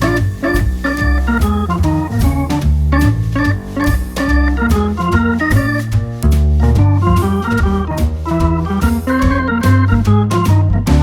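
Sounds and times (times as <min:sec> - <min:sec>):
keyboard melody with bass and beat: 0:00.0 - 0:11.0.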